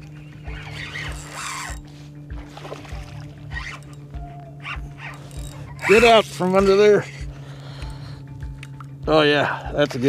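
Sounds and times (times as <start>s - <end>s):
music with low beat: 0.0s - 10.0s.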